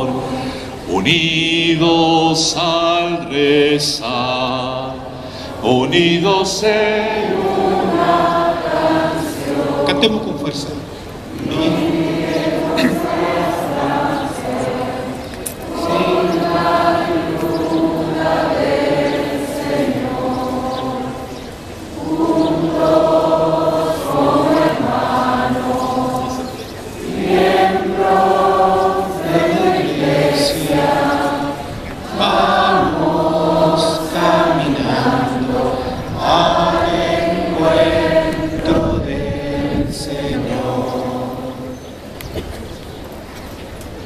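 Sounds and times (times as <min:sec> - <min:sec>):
crowd singing a hymn: 0:00.0 - 0:42.7.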